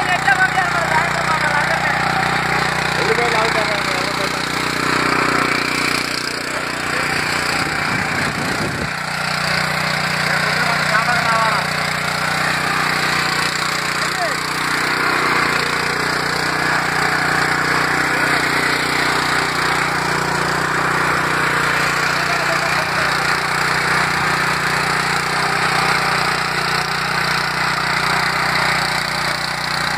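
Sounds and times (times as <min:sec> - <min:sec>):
small tiller engine running: 0:00.0 - 0:29.9.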